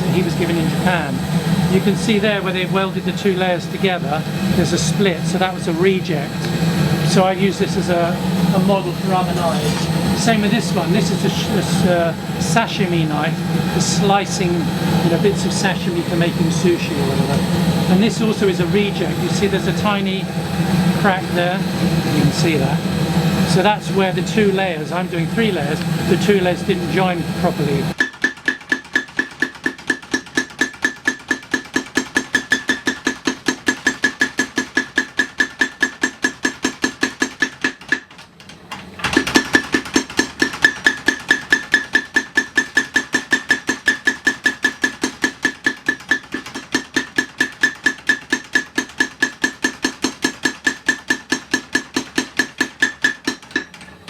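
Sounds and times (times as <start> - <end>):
mechanical hammer striking hot steel: 0.0 - 38.1, 39.0 - 54.0.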